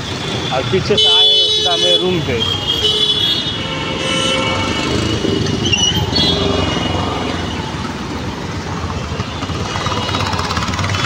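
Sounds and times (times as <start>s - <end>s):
cars passing: 0.0s - 11.0s
motorbikes passing: 0.0s - 11.0s
road noise: 0.0s - 11.0s
auto-rickshaw passing: 2.0s - 11.0s.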